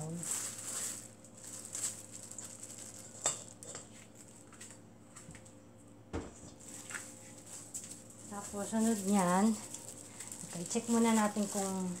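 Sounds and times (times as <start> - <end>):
spinach rustling in hand: 0.0 - 5.2, 6.6 - 12.0.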